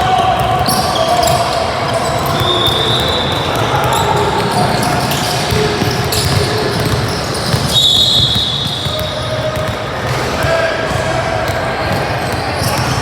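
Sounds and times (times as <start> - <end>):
hubbub of voices: 0.0 - 13.0
basketball bouncing on court: 0.3 - 13.0.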